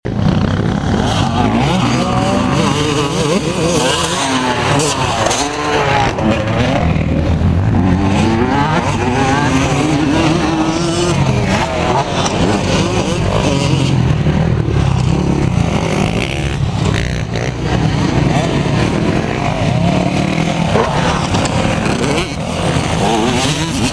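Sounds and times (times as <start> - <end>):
motorcycle engines revving: 0.1 - 23.9.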